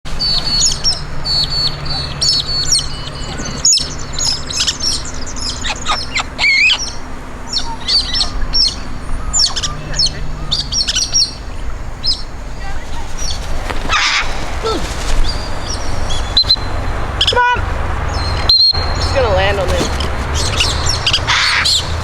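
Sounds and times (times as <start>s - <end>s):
birds chirping and calling: 0.1s - 22.0s.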